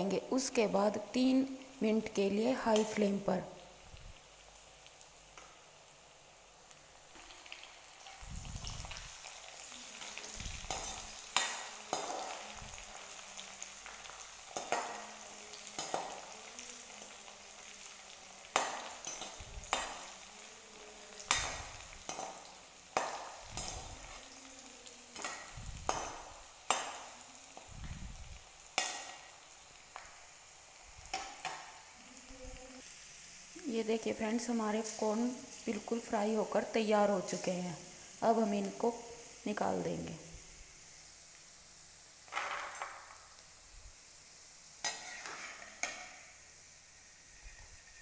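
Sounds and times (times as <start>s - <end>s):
kernels sizzling in hot oil: 0.0s - 48.0s.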